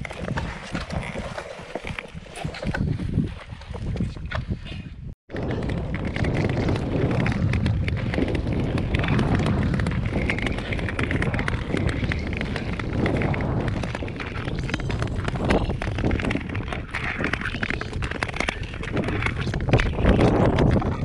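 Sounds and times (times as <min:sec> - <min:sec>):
skates scraping on ice: 0:00.0 - 0:21.0
wind rumble on microphone: 0:00.0 - 0:21.0.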